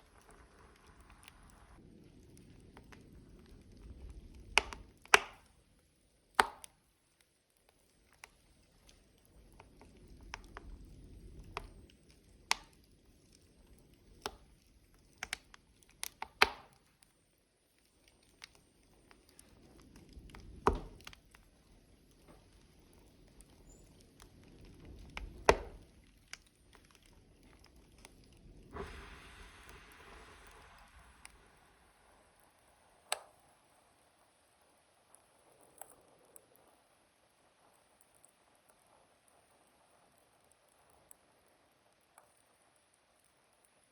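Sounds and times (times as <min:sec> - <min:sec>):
burning logs crackling: 0:00.0 - 0:43.9
low rumble of flames: 0:00.0 - 0:43.9.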